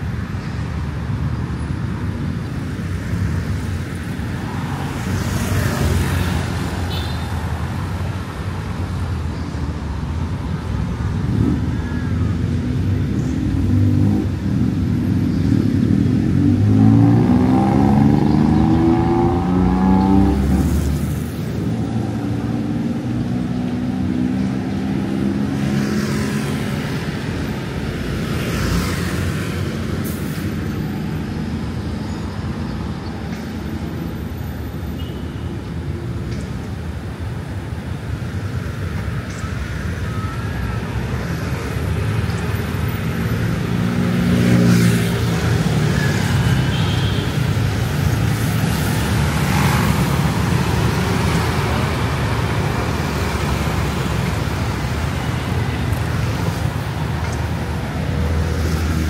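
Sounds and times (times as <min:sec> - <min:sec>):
scooters and cars driving past: 0:00.0 - 0:59.0.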